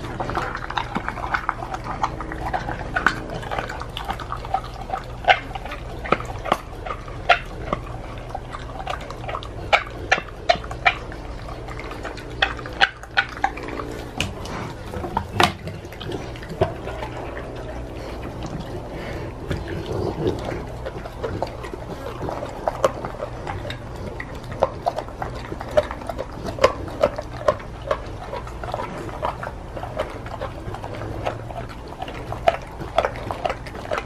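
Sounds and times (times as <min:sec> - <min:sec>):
bones crunching and snapping: 0:00.0 - 0:34.0
dog chewing meat: 0:00.0 - 0:34.0.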